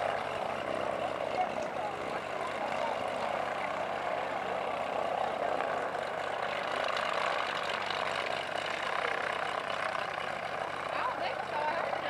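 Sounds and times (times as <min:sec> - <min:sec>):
floatplane engine and propeller running: 0:00.0 - 0:12.0.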